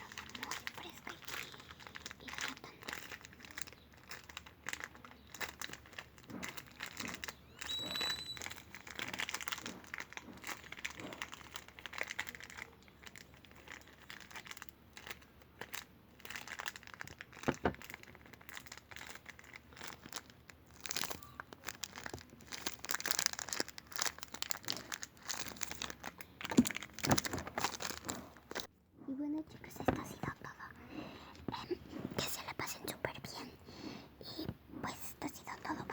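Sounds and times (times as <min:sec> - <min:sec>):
crinkling and crumpling: 0:00.0 - 0:28.7, 0:29.4 - 0:33.6, 0:34.2 - 0:35.9.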